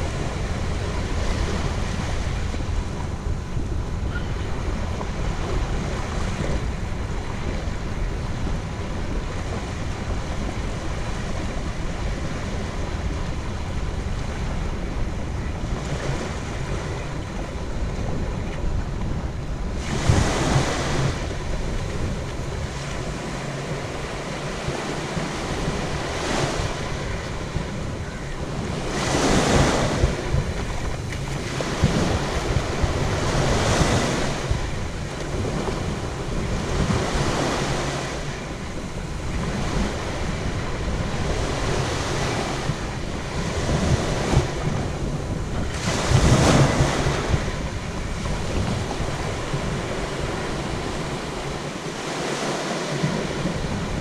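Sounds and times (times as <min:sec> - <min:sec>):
surf washing onto beach: 0:00.0 - 0:54.0
wind rumbling on microphone: 0:00.0 - 0:54.0.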